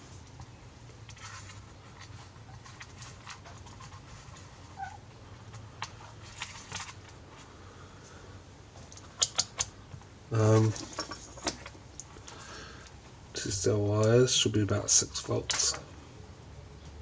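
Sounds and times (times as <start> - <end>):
clicks and rustles of small wires: 0.0 - 16.0
low steady hum: 0.0 - 17.0.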